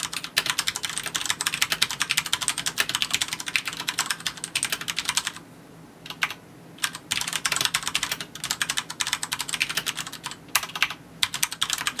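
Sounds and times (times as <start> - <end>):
mechanical keyboard typing: 0.0 - 5.4, 6.1 - 12.0.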